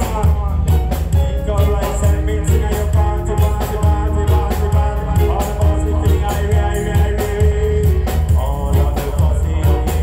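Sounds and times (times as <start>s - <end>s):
drum beat: 0.0s - 10.0s
heavy bass: 0.0s - 10.0s
keyboards: 0.0s - 10.0s
person singing: 0.0s - 10.0s
reggae band playing: 0.0s - 10.0s.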